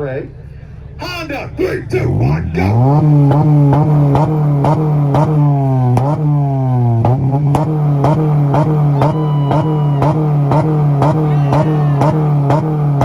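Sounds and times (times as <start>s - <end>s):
engine on rev limiter popping: 2.0s - 13.0s.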